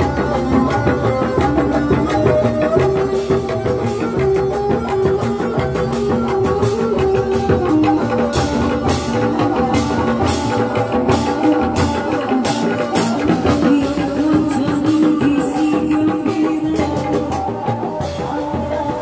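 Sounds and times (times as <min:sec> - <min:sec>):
barrel drum: 0:00.0 - 0:19.0
held melody line: 0:00.0 - 0:19.0.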